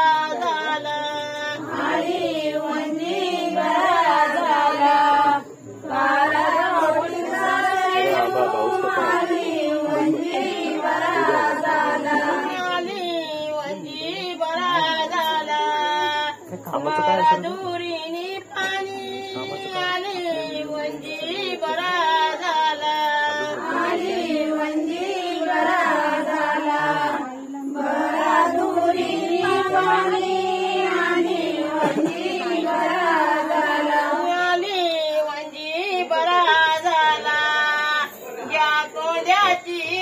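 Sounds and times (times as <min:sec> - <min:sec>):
women singing folk song: 0:00.0 - 0:40.0.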